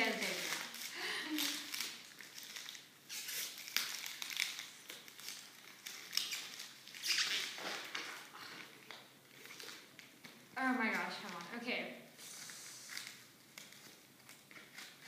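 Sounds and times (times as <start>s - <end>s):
paper wrapping being torn: 0.0s - 11.6s, 12.4s - 15.0s.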